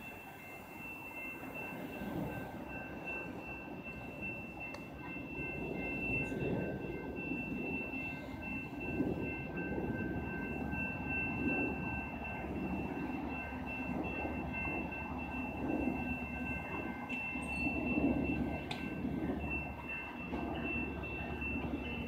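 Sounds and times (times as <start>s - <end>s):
high steady tones: 0.0s - 22.0s
train rumbling: 0.0s - 22.0s.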